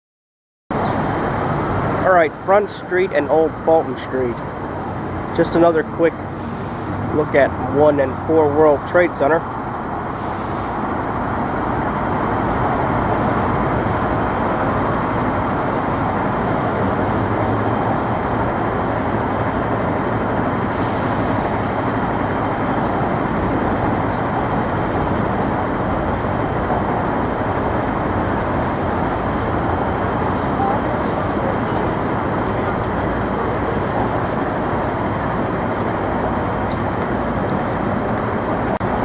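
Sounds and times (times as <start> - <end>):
road traffic noise: 0.7 - 39.0.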